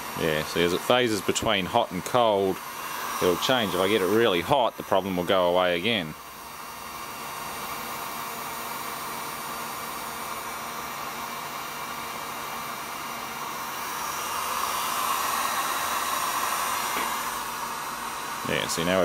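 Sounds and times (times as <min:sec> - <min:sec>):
heat gun fan blowing: 0:00.0 - 0:19.0.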